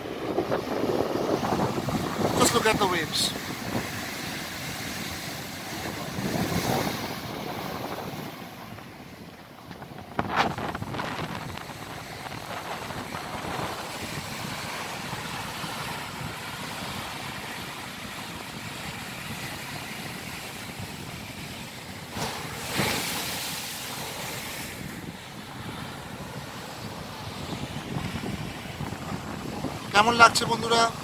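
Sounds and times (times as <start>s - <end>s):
waves breaking against sea wall: 0.0s - 31.0s
wind buffeting microphone: 0.0s - 31.0s.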